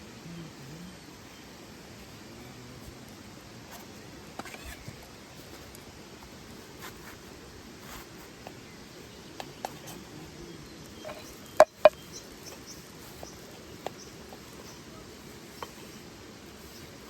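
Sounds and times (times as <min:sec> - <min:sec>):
flowing water: 0:00.0 - 0:17.0.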